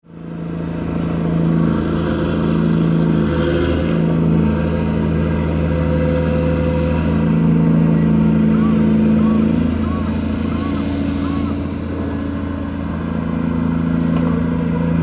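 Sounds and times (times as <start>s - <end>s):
ship engine drone: 0.0s - 15.0s.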